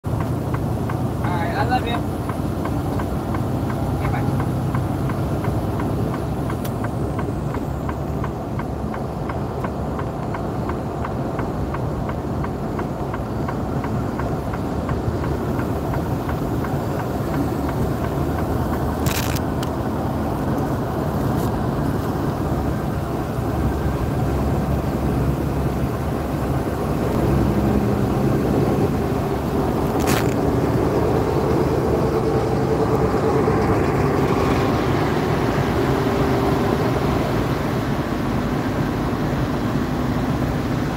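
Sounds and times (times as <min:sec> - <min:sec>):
road noise: 0:00.0 - 0:40.9
truck diesel engine drone: 0:00.0 - 0:40.9.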